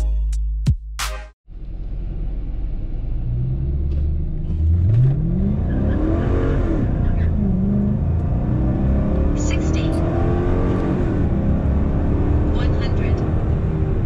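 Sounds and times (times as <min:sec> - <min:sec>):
car engine accelerating: 0:01.5 - 0:14.0.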